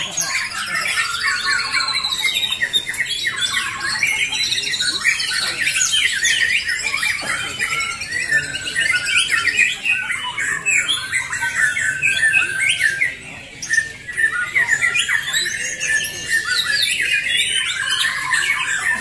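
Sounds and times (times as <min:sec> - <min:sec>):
songbirds singing in chorus: 0:00.0 - 0:19.0.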